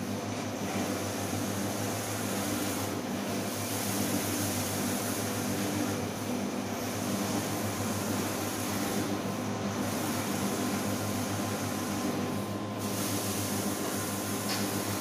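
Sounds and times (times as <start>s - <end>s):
machine hum and whir: 0.0s - 15.0s.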